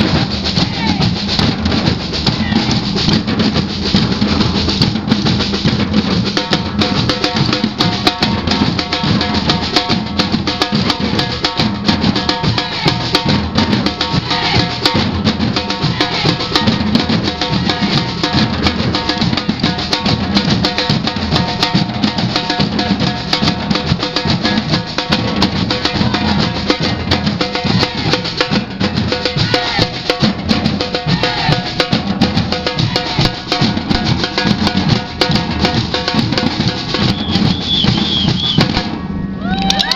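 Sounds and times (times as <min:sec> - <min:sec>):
samba drums playing: 0:00.0 - 0:39.9.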